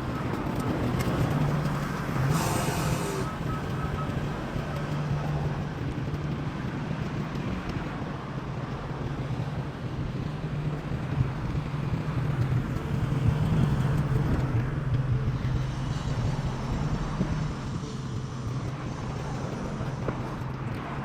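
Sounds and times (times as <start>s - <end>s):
street traffic hum: 0.0s - 21.0s.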